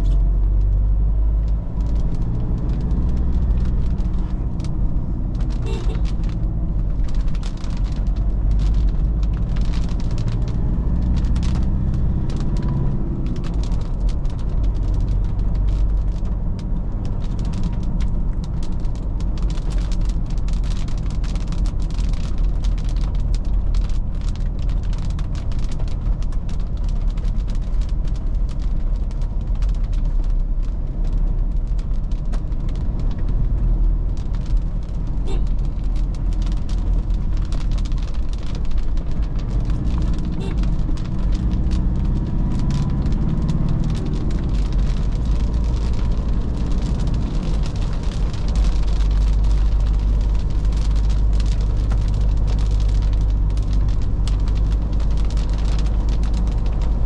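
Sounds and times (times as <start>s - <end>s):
raindrops ticking: 0.0s - 57.0s
tyres on a wet road: 0.0s - 57.0s.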